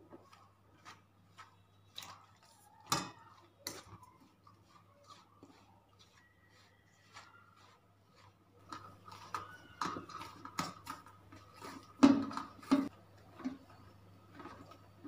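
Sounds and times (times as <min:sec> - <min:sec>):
hand mixing dough in metal bowl: 0:00.0 - 0:15.0.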